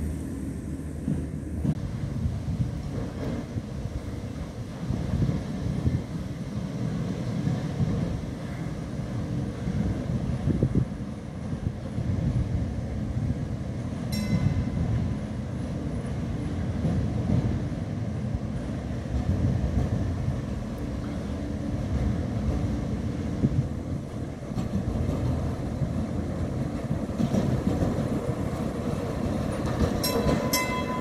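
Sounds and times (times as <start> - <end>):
tram rumbling along track: 0.0 - 31.0.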